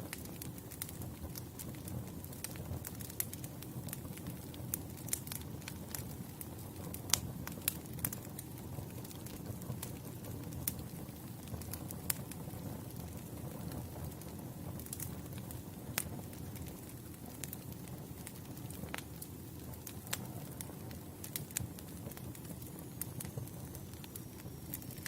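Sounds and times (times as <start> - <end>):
campfire burning: 0.0 - 25.0
wood crackling and popping: 0.0 - 25.0.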